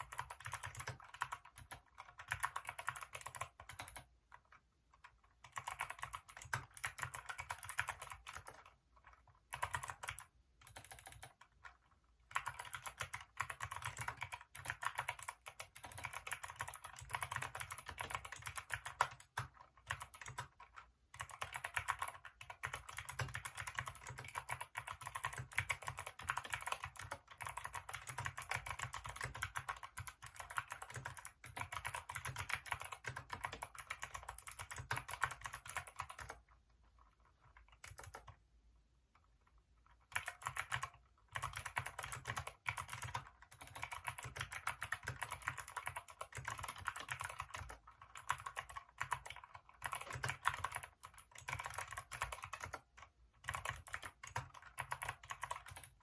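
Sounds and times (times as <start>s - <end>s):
mechanical keyboard typing: 0.0s - 38.4s, 39.9s - 56.0s.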